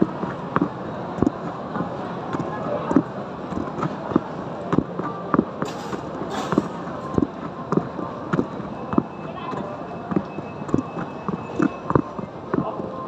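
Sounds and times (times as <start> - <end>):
crowd chatter: 0.0 - 13.0.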